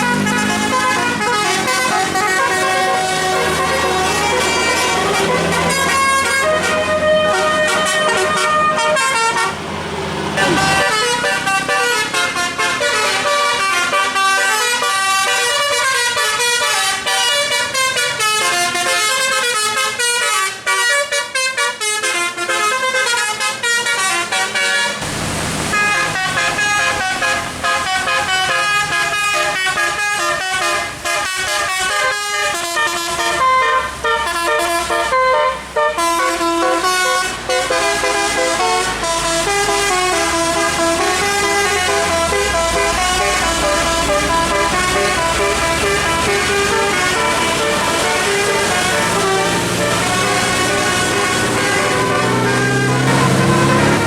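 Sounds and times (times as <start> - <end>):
musical air horn melody: 0.0 - 9.6, 10.4 - 25.0, 25.7 - 54.0.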